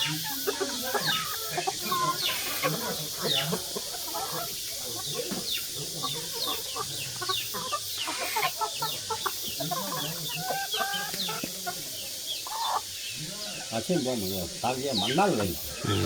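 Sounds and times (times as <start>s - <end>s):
chickens clucking and calling: 0.0s - 16.0s.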